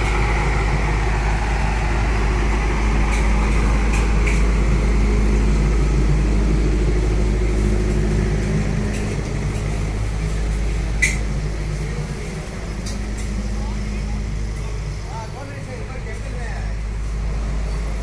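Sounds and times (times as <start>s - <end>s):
toy train rumbling on track: 0.0s - 18.0s.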